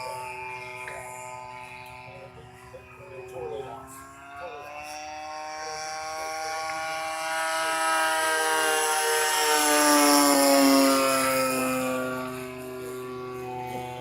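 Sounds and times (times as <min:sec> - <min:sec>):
model airplane engine droning: 0:00.0 - 0:14.0.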